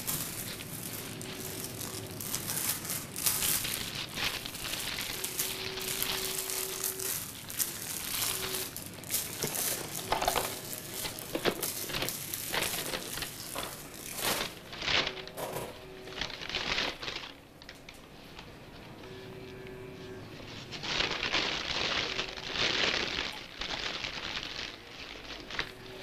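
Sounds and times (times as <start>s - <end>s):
paper crinkling and rustling: 0.0s - 19.0s, 20.4s - 26.0s.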